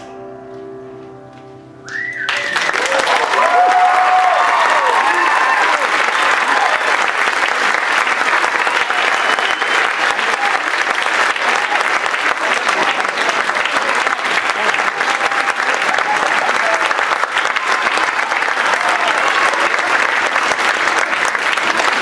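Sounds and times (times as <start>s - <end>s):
audience applauding: 1.9s - 22.0s
crowd voices: 2.2s - 22.0s.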